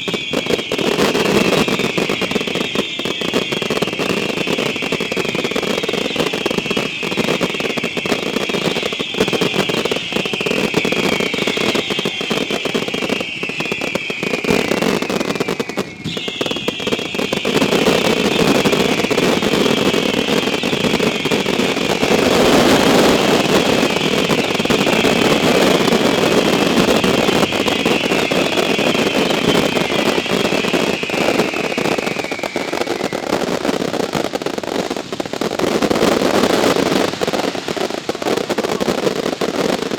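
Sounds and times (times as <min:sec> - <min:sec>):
fireworks crackling and popping: 0:00.0 - 0:39.9
whistling fireworks: 0:00.0 - 0:39.9.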